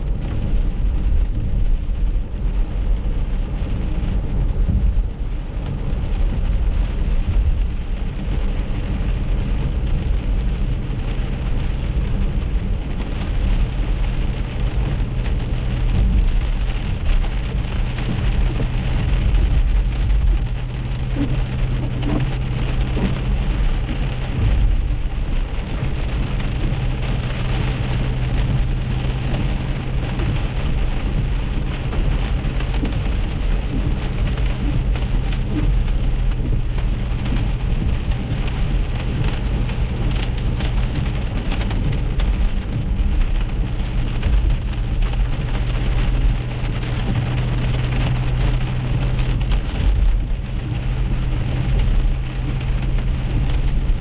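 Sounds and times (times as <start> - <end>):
car hum on wet road: 0.0 - 54.0
rain and hail on car roof: 0.0 - 54.0.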